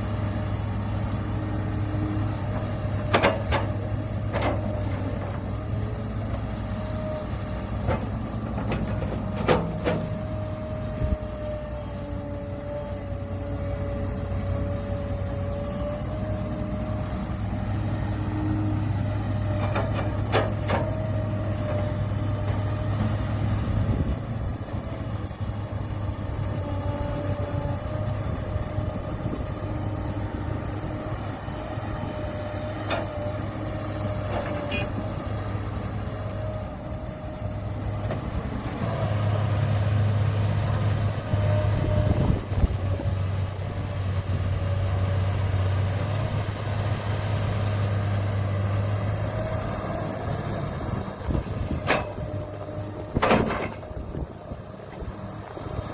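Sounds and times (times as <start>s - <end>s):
diesel engine of heavy machinery: 0.0s - 55.9s.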